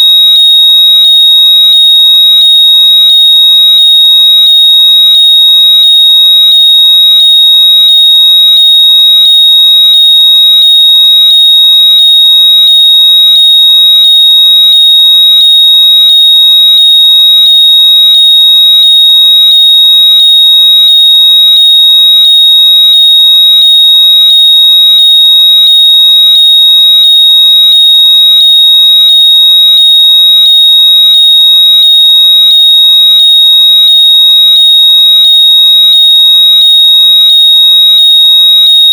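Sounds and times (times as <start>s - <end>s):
piercing high electronic tone: 0.0s - 38.9s.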